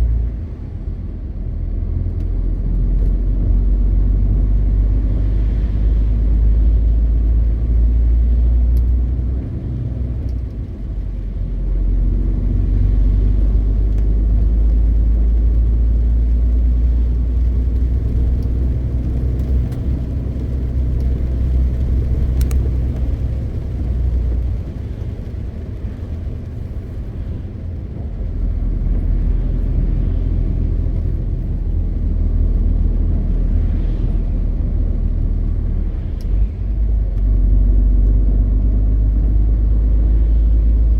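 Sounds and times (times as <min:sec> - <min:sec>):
road noise: 0:00.0 - 0:40.9
truck diesel engine rumbling: 0:00.0 - 0:40.9.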